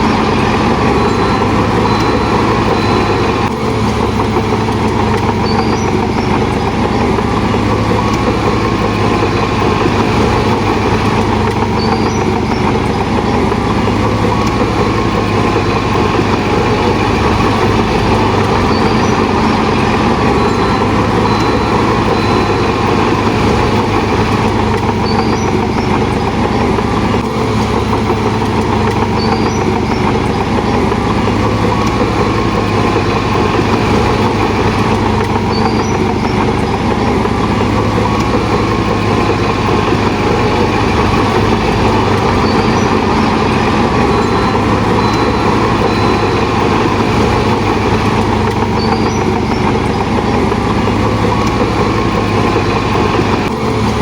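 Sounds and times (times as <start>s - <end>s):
faint high chirps: 0.0s - 53.6s
bulldozer diesel engine running: 0.0s - 54.0s.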